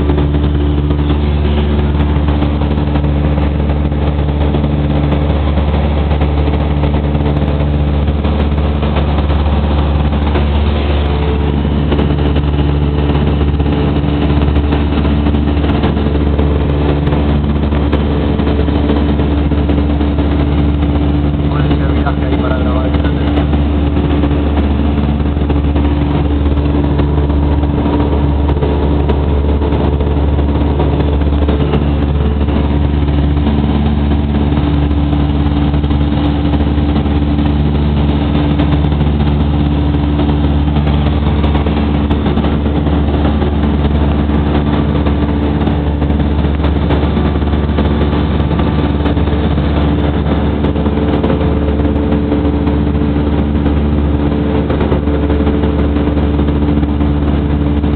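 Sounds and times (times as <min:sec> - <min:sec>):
aircraft engine droning: 0:00.0 - 0:57.9.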